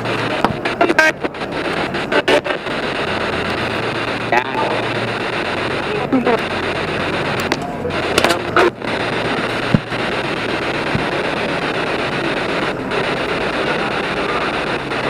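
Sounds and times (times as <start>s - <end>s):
sharp clicks: 0.0s - 13.6s
radio static hiss: 0.0s - 15.0s.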